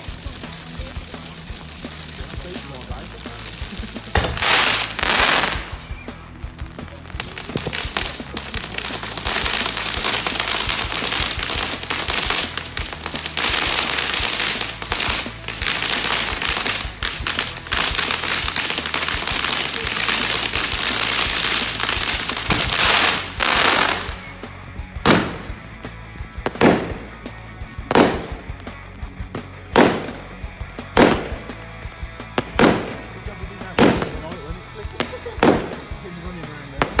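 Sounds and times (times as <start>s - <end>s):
fireworks crackling and banging: 0.0s - 37.0s
fireworks rushing bursts: 0.0s - 37.0s
fireworks sharp bangs: 0.0s - 37.0s.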